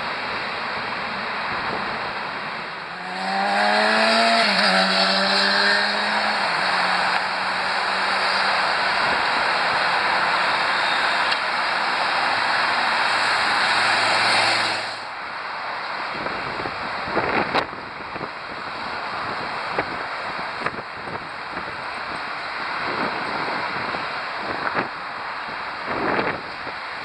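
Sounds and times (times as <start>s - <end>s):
road traffic roar: 0.0s - 27.0s.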